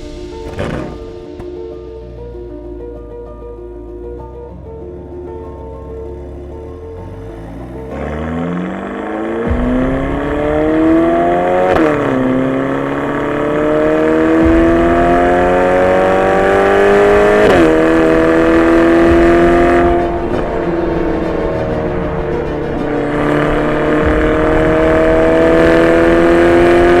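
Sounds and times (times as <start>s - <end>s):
car engine accelerating: 0.0s - 27.0s
gear shift pitch drop: 0.0s - 27.0s.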